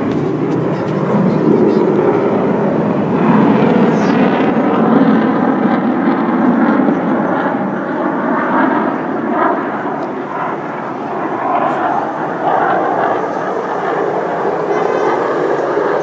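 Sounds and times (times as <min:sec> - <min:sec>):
fighter jet flying past: 0:00.0 - 0:16.0.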